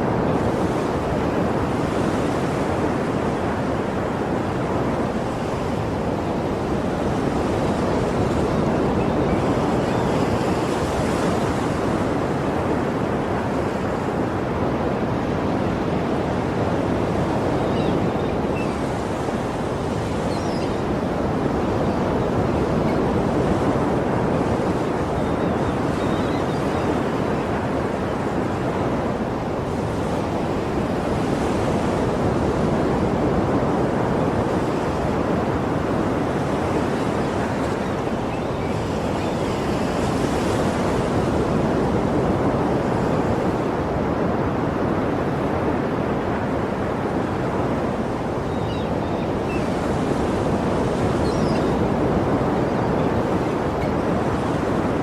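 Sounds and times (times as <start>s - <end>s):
sea surf washing on shore: 0.0s - 55.0s.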